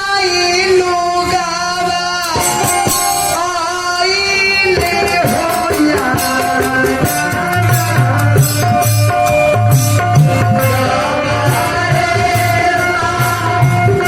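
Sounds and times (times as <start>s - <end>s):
tabla and drum: 0.0s - 14.0s.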